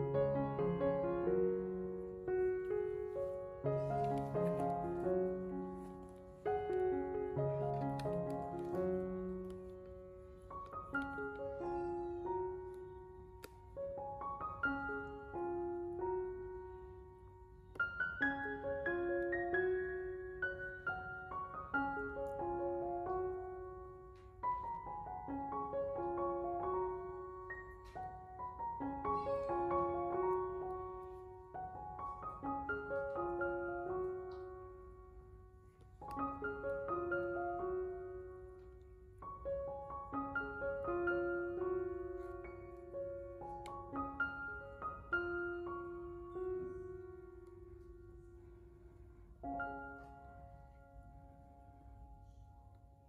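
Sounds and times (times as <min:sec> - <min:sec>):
soft piano music: 0:00.0 - 0:53.0.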